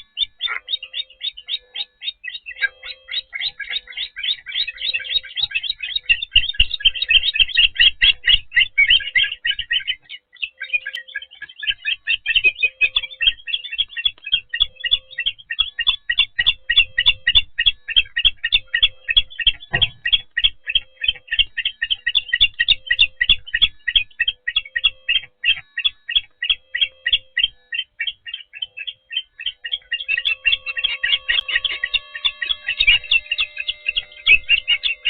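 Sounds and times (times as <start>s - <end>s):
faint pulsing low hum: 0.0s - 35.0s
osprey chirping: 0.0s - 35.0s.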